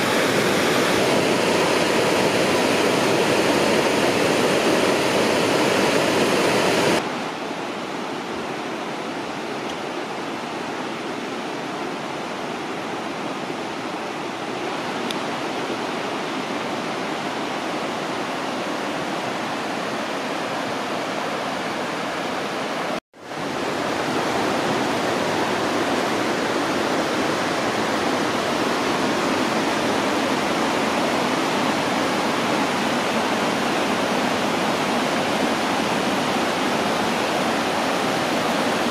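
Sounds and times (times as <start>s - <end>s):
creek water rushing over rapids: 0.0s - 38.9s.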